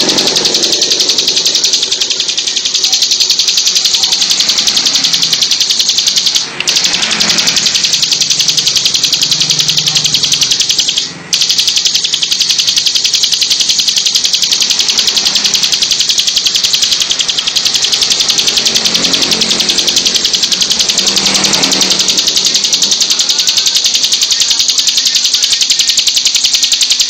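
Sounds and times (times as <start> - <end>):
bird singing fast high trill: 0.0 - 27.0.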